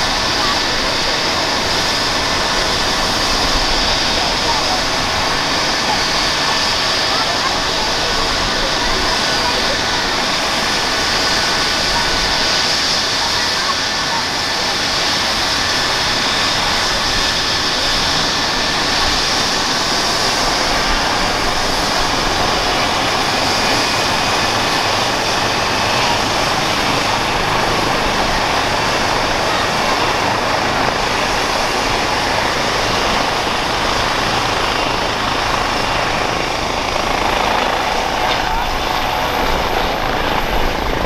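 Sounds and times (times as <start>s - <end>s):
helicopter running: 0.0s - 41.0s
high turbine whine: 0.0s - 41.0s.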